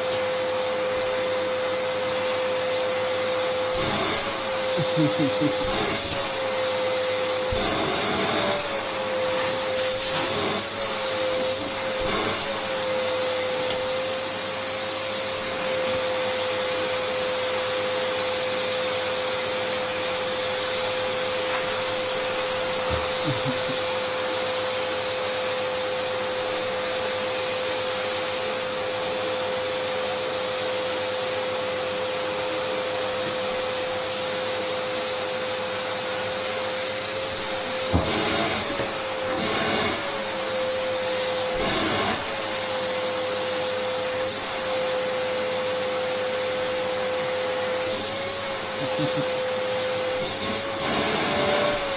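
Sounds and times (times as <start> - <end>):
vacuum cleaner whine: 0.0 - 51.9.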